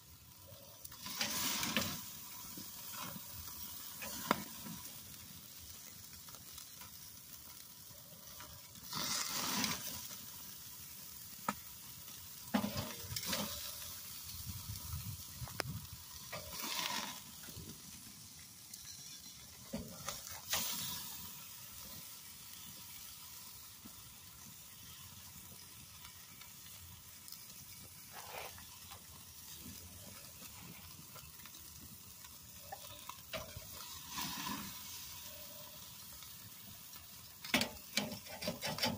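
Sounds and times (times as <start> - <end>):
steaks sizzling on grill: 0.0 - 38.9.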